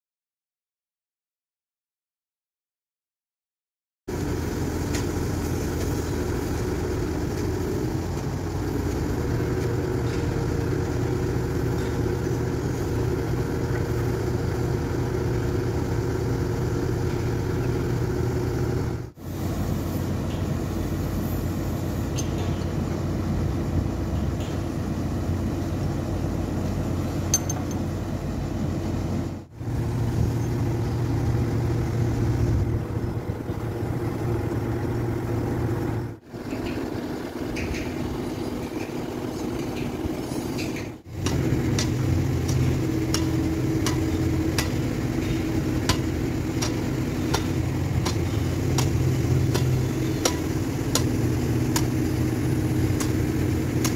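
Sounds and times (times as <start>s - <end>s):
diesel engine humming: 4.1s - 53.9s.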